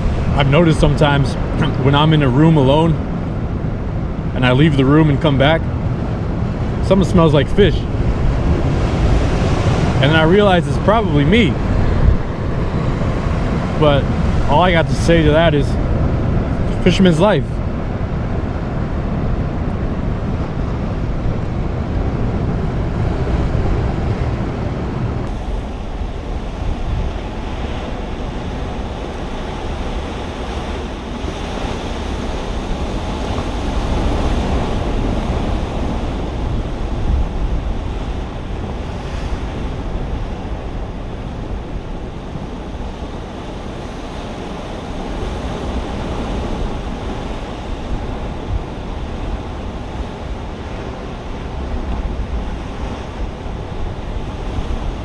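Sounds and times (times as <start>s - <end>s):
ocean surf: 0.0s - 55.0s
wind buffeting microphone: 0.0s - 55.0s.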